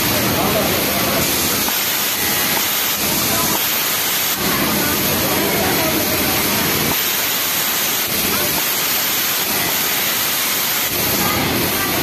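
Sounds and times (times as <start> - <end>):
faint voices: 0.0 - 10.2, 10.8 - 12.0
industrial sewing machines running: 0.0 - 12.0.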